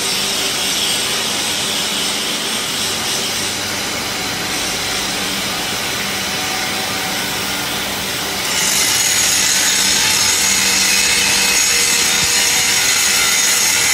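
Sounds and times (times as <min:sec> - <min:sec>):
low workshop hum: 0:00.0 - 0:13.9
power grinder grinding steel: 0:00.1 - 0:13.9.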